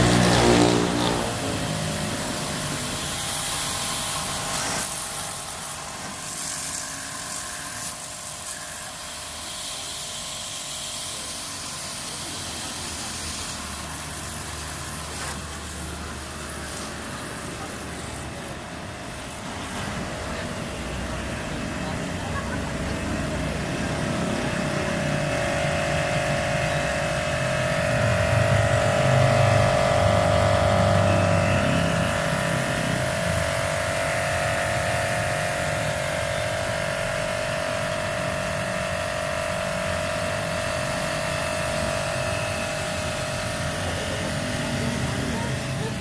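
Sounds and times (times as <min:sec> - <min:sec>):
pressure washer whine and hiss: 0:00.0 - 0:46.0.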